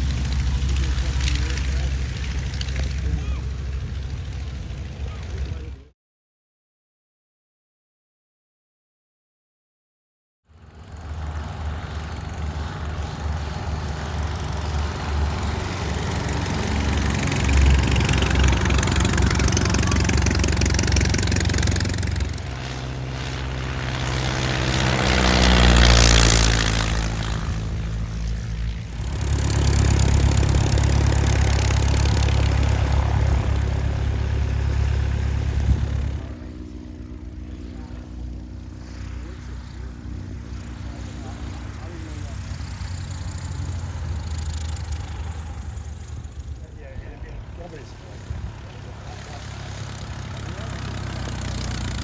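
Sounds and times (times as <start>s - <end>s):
aircraft passing close: 0.0s - 5.9s, 10.5s - 52.0s
light aircraft propeller engine: 0.0s - 5.9s, 10.5s - 52.0s.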